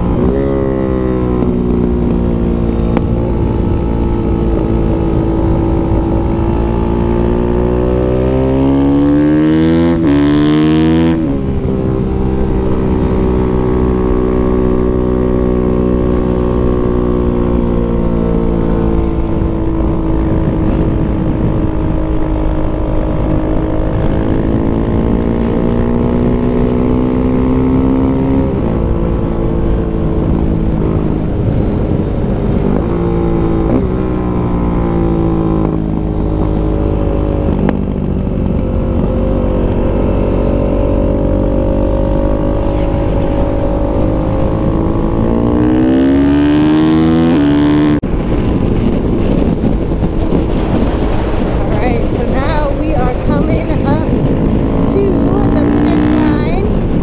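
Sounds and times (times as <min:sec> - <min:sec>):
motorcycle engine running hard: 0:00.0 - 0:57.0
wind rushing over microphone: 0:00.0 - 0:57.0.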